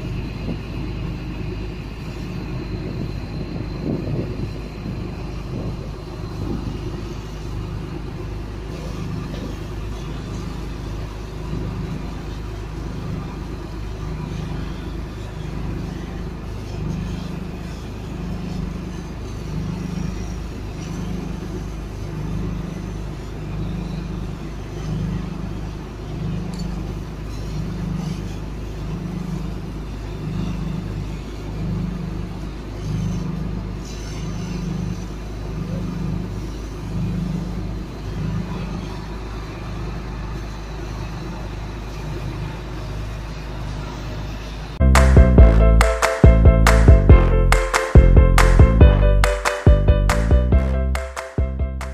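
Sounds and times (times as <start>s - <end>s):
fire truck engine running: 0.0s - 33.8s, 34.4s - 51.9s.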